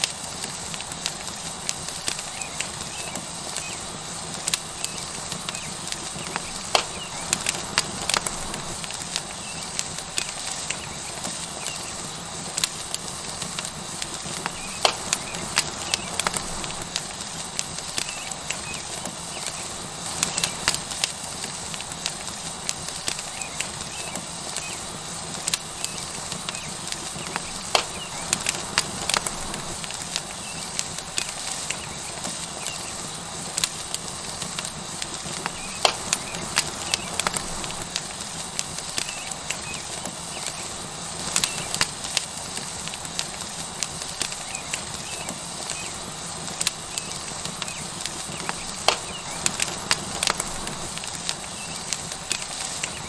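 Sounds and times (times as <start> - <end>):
burning wood crackling: 0.0 - 53.0
steak sizzling on hot stone: 0.0 - 53.0.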